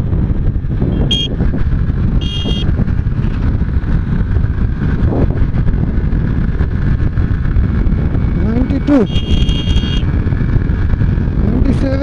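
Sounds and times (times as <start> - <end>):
heavy wind noise on microphone: 0.0 - 12.0
motorcycle engine accelerating: 0.0 - 12.0.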